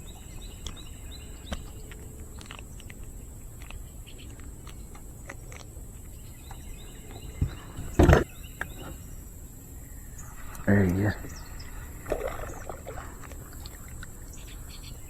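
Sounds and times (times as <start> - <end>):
faint chirps and ticks: 0.0 - 15.0
low outdoor noise: 0.0 - 15.0.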